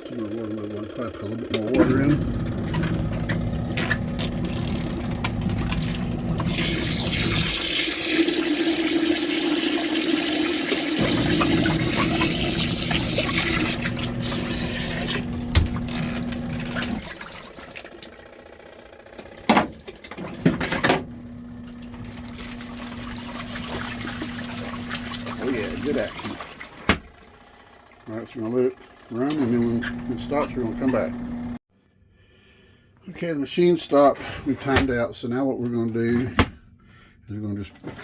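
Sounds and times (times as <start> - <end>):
washing machine motor humming: 0.0 - 31.6
water pouring into washing machine: 0.0 - 31.6.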